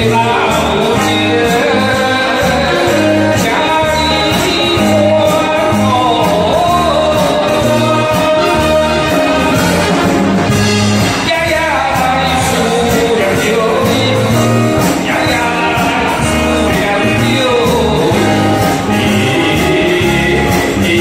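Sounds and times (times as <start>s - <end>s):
karaoke backing track: 0.0s - 21.0s
man singing into microphone: 0.0s - 21.0s.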